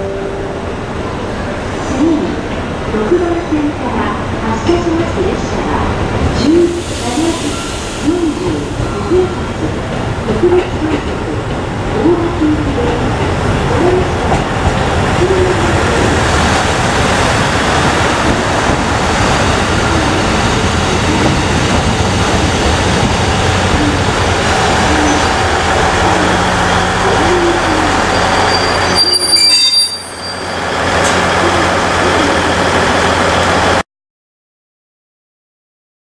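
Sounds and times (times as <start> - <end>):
train running past on rails: 0.0 - 33.8.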